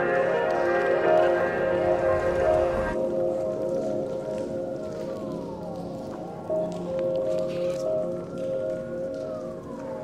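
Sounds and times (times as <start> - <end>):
music with sustained layered tones: 0.0 - 10.0.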